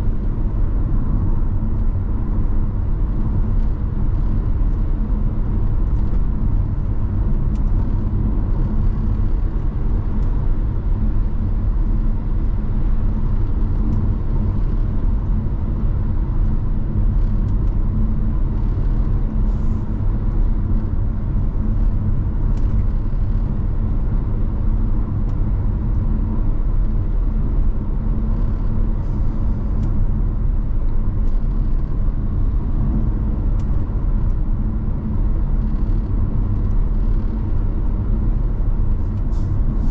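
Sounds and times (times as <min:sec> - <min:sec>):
car driving road rumble: 0:00.0 - 0:39.9.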